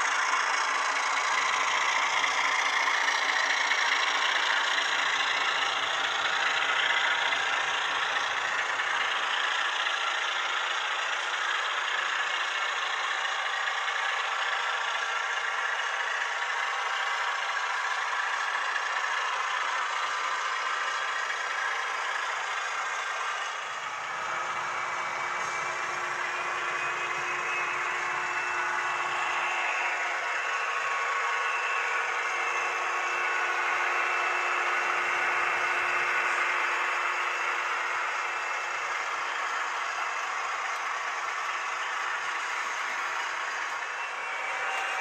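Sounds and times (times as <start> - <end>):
model train wheels rattling: 0.0 - 45.0.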